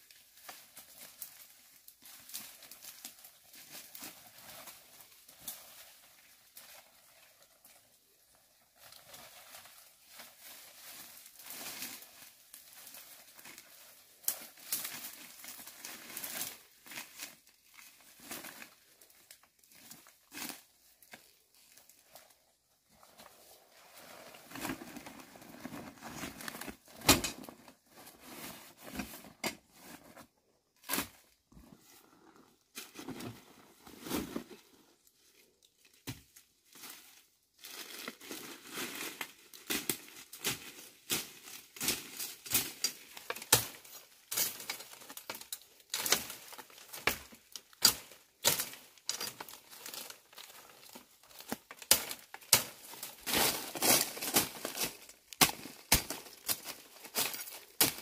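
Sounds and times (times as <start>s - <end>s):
crinkling and rustling: 0.1s - 58.0s.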